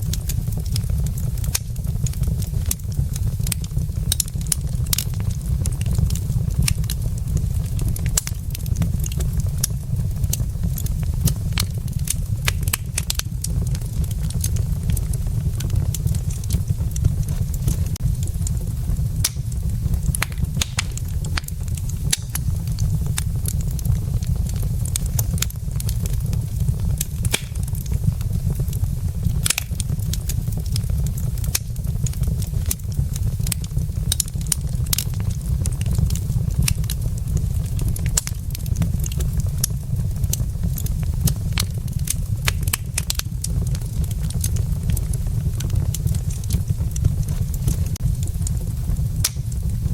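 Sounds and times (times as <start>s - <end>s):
burning logs popping: 0.0s - 49.9s
fire low rumble: 0.0s - 49.9s
wood fire crackling: 0.0s - 49.9s.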